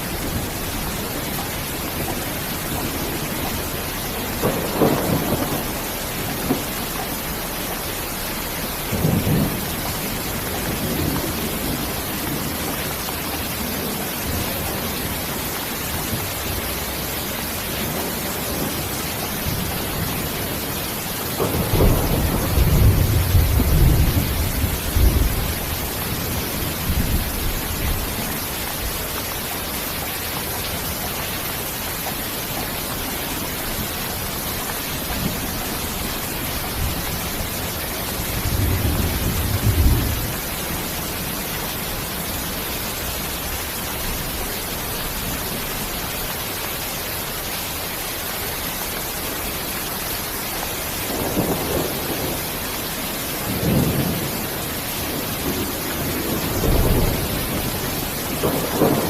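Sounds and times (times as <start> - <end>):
rolling thunder rumble: 0.0 - 46.0, 51.0 - 59.0
steady rain falling: 0.0 - 59.0.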